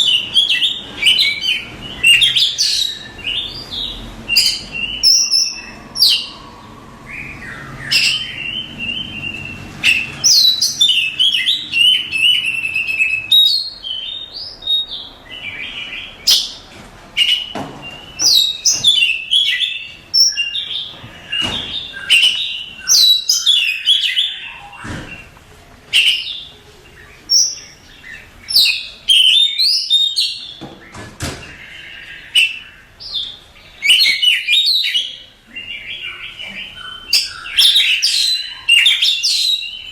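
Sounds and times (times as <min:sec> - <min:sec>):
bird singing whistles and trills: 0:00.0 - 0:16.6, 0:17.2 - 0:24.8, 0:25.9 - 0:30.6, 0:31.4 - 0:39.9.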